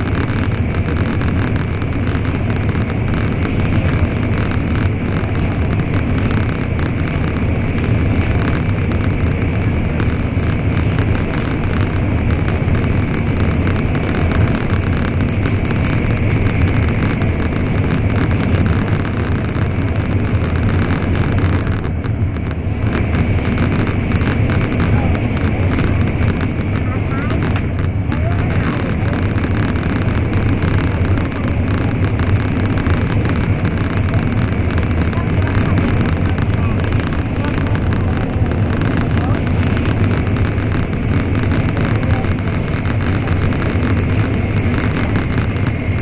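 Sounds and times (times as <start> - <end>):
train interior low rumble: 0.0 - 46.0.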